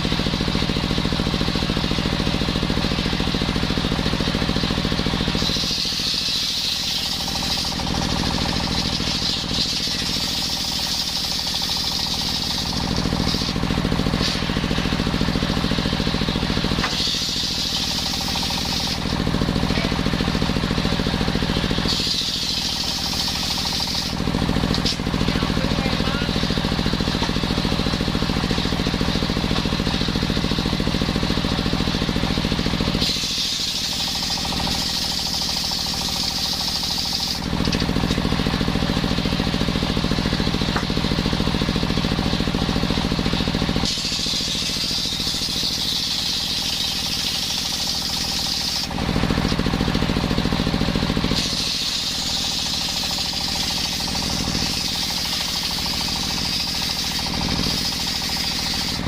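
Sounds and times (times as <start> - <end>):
circular saw cutting wood: 0.0 - 59.0
saw blade whine: 0.0 - 59.0.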